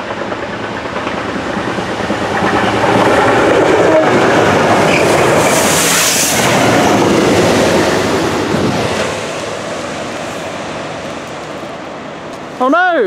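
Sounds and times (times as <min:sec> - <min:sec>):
diesel locomotive passing: 0:00.0 - 0:13.0.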